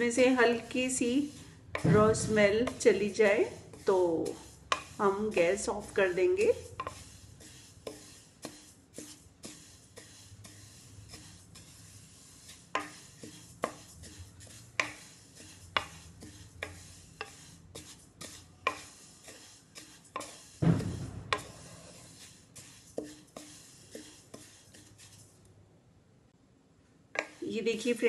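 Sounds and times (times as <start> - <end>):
sesame seeds rustling in pan: 2.2 - 25.4.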